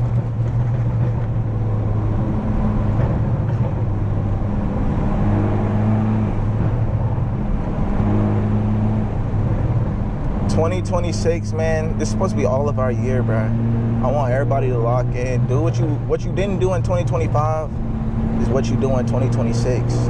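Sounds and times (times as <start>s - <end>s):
car exhaust droning while driving: 0.0s - 20.0s.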